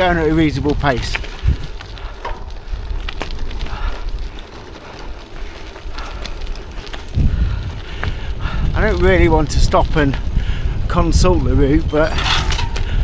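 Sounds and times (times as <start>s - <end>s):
bike tyres rolling over grass: 0.0s - 13.0s
wind rumble on microphone: 0.0s - 13.0s.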